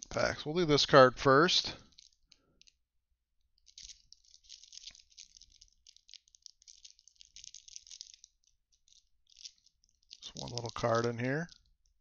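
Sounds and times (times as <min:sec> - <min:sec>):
cellophane wrapper crinkling: 0:00.0 - 0:12.0.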